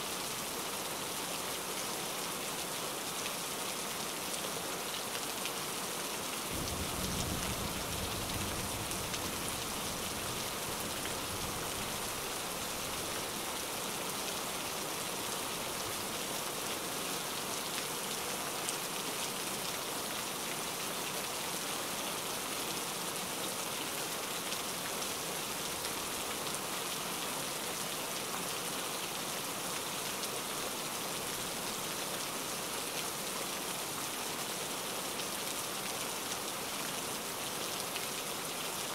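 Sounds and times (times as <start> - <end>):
rain patter: 0.0 - 38.9.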